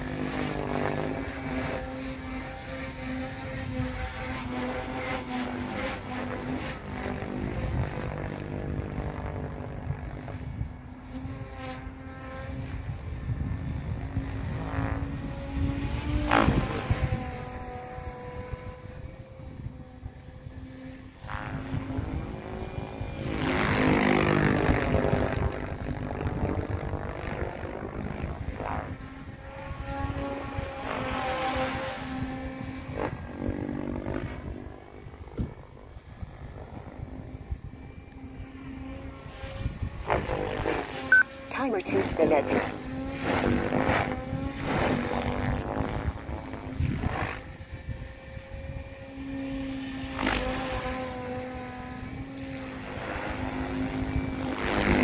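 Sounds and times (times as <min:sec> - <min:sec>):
helicopter motor whine: 0:00.0 - 0:55.0.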